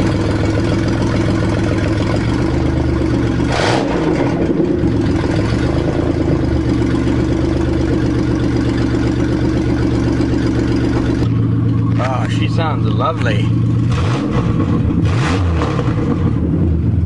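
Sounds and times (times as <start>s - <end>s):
loud car engine running: 0.0s - 17.0s.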